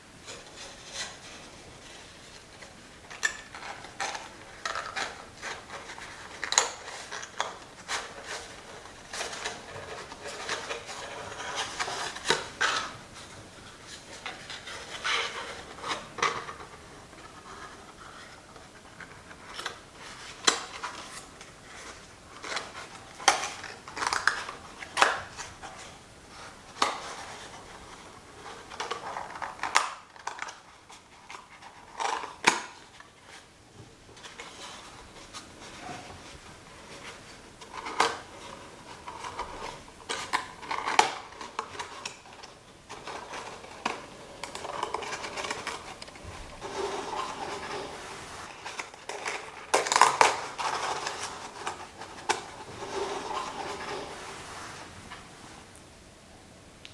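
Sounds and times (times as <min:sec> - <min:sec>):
cardboard rustling and rubbing: 0:00.0 - 0:55.6.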